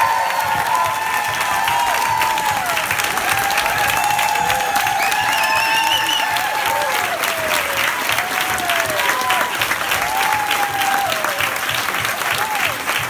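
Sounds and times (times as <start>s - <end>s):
audience clapping: 0.0s - 13.0s
people whooping: 0.0s - 13.0s.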